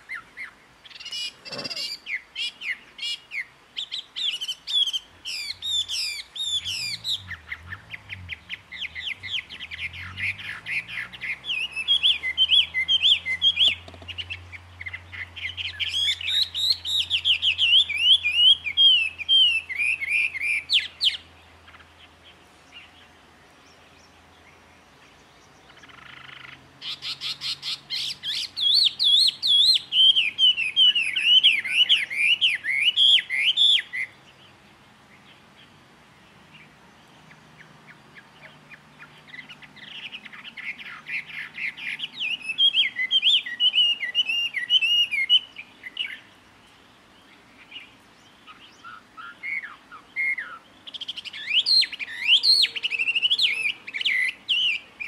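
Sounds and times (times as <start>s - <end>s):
songbird singing whistled trills: 0.0s - 35.7s, 36.3s - 55.0s.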